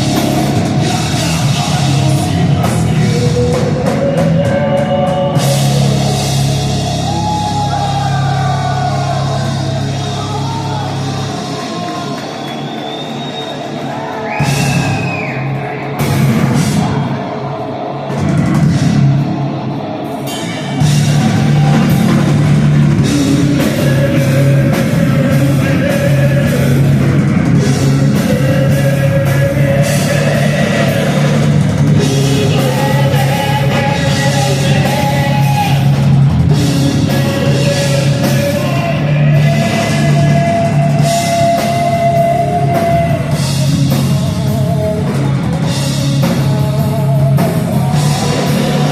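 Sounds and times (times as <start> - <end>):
heavy rock band playing live: 0.0 - 12.7, 13.8 - 48.9
drum kit: 0.0 - 48.9.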